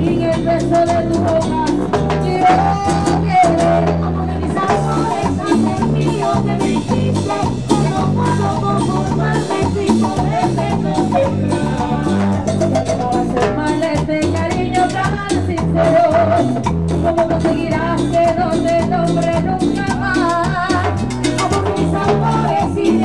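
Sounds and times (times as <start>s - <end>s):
live band playing dance music: 0.0s - 23.0s
women singing: 0.0s - 23.0s.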